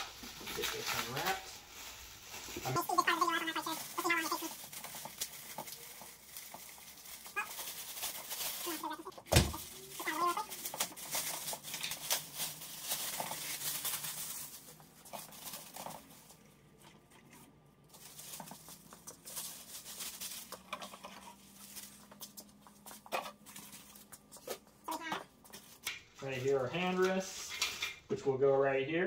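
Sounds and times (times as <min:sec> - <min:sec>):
plastic wrapping crinkling: 0:00.0 - 0:28.0.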